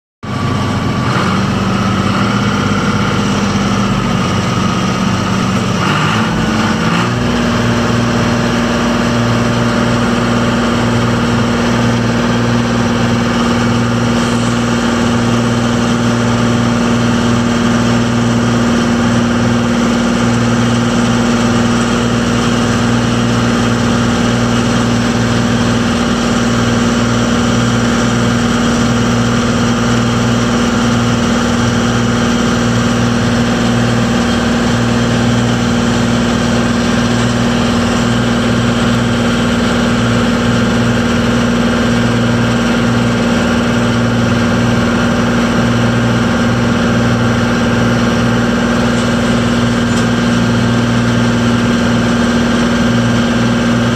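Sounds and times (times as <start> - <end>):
tractor diesel engine running: 0.2 - 53.9.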